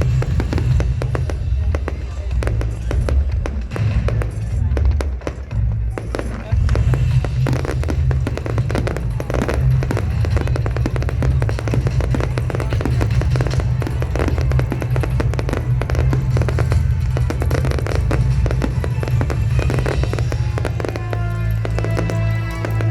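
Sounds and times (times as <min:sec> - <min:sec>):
fireworks bangs and crackles: 0:00.0 - 0:22.9
loud music with heavy bass: 0:00.0 - 0:22.9.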